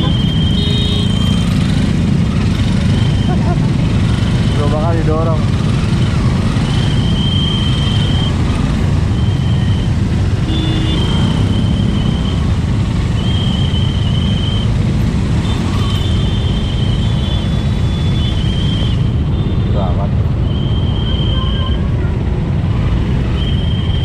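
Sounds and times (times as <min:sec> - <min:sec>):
engines idling in traffic: 0:00.0 - 0:24.0.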